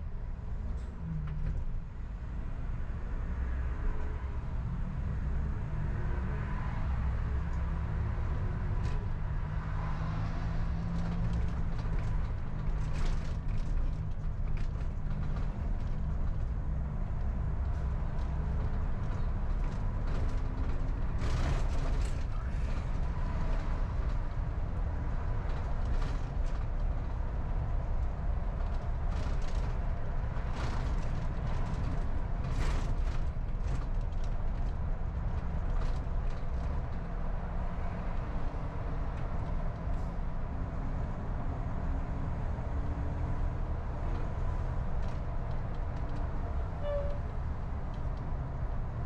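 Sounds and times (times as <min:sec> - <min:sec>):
car driving rumble: 0:00.0 - 0:49.0.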